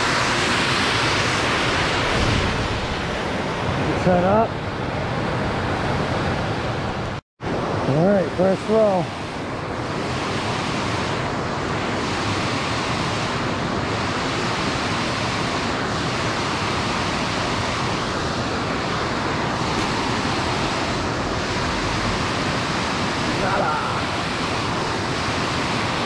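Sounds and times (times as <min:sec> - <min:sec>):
water rushing over spillway: 0:00.0 - 0:26.0.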